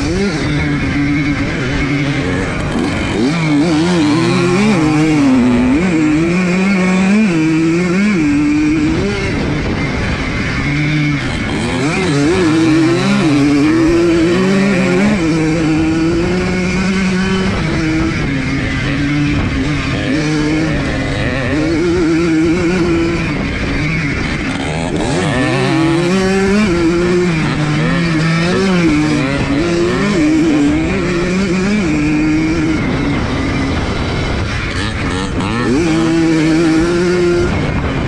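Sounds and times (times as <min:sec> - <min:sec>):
two-stroke motorcycle engine revving: 0:00.0 - 0:38.0.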